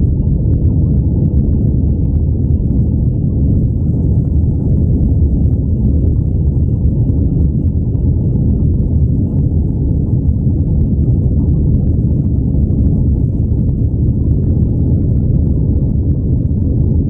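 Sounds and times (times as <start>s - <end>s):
airplane engines rumbling: 0.0s - 17.0s
faint steady hum: 0.0s - 17.0s.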